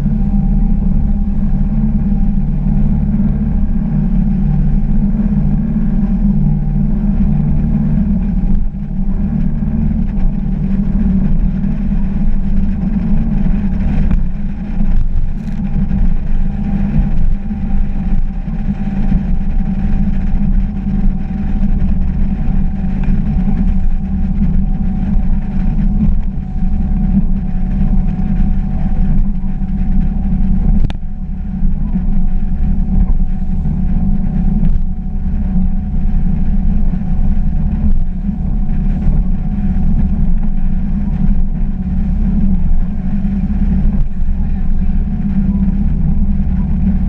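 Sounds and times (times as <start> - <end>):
boat engine drone: 0.0 - 47.0
faint steady whine: 0.0 - 47.0.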